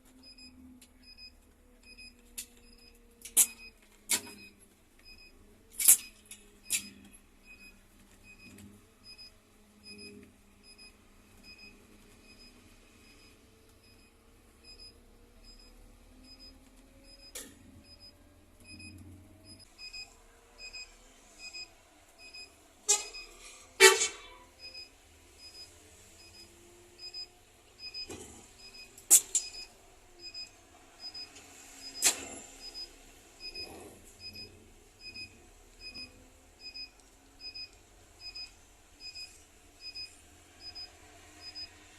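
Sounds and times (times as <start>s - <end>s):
electronic warning beep: 0.2s - 5.3s, 6.0s - 23.4s, 24.6s - 41.8s
bus engine rising: 0.4s - 23.4s, 24.5s - 41.9s.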